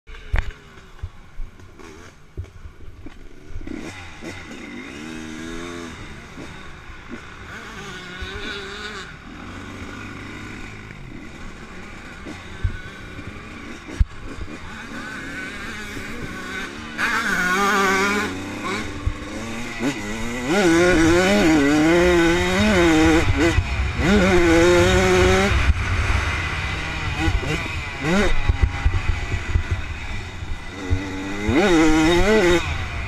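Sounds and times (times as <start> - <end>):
off-road engines revving: 0.1 - 33.0.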